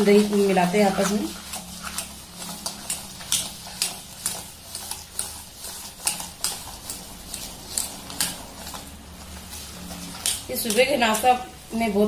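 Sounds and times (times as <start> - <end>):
wire whisk scraping metal bowl: 0.0 - 12.0.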